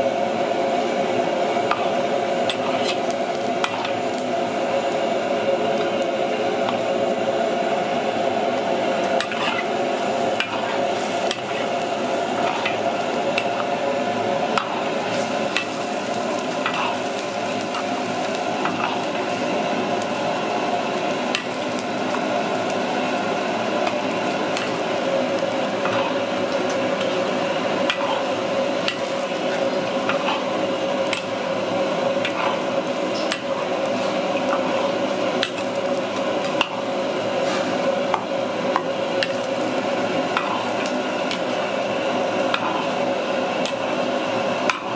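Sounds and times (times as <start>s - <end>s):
hiss from hot wok: 0.0s - 44.9s.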